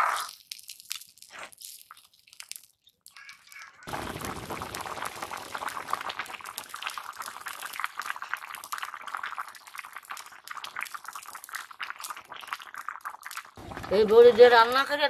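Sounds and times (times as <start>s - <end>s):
curry boiling with popping bubbles: 1.8s - 15.0s.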